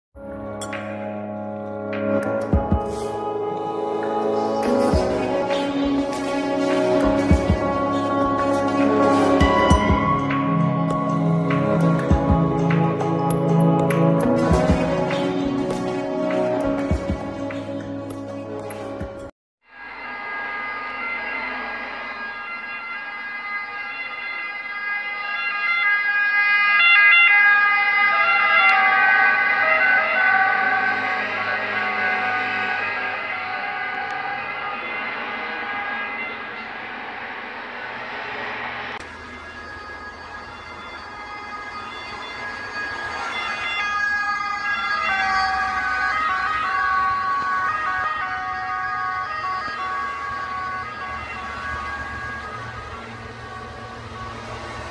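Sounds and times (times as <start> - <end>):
ambulance siren wailing: 1.5 - 19.2, 19.9 - 54.9.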